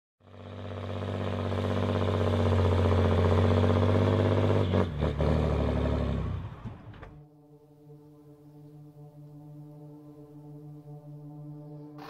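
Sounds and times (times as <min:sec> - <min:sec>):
engine running: 0:00.2 - 0:12.0.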